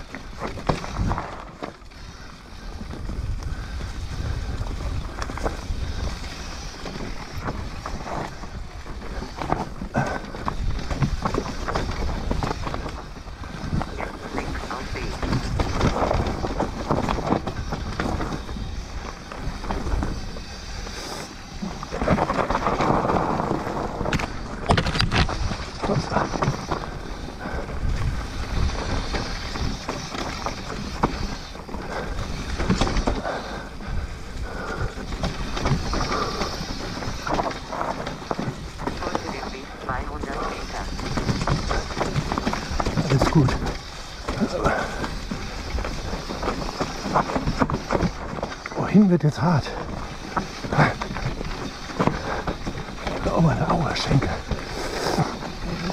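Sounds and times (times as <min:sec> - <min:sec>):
bike chain and frame rattling: 0:00.0 - 0:55.9
tyres crunching over dirt: 0:00.0 - 0:55.9
wind buffeting microphone: 0:00.0 - 0:55.9.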